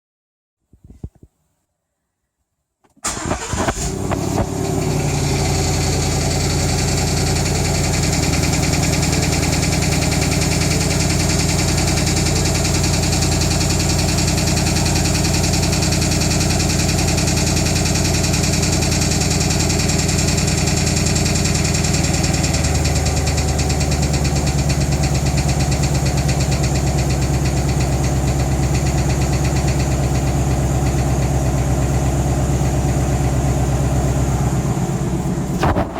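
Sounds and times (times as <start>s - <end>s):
car engine starting and idling: 3.0s - 35.9s.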